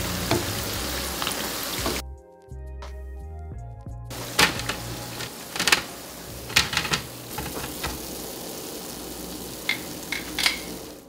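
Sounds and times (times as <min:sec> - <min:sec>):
hot oil sizzling and popping: 0:00.0 - 0:02.0, 0:04.1 - 0:11.0.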